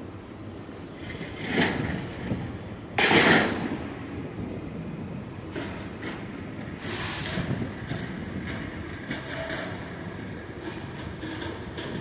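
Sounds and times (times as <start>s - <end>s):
train rumble and air rush: 0.0s - 12.0s.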